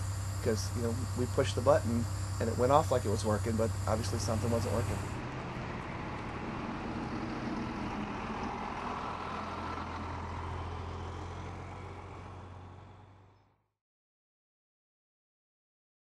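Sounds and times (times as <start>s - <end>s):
ambulance engine driving away: 0.0s - 13.6s.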